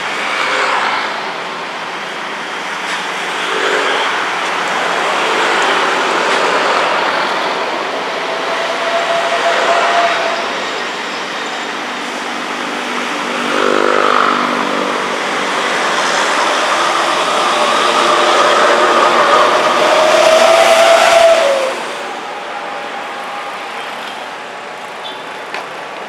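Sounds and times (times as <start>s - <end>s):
rail vehicle engine running: 0.0s - 26.0s.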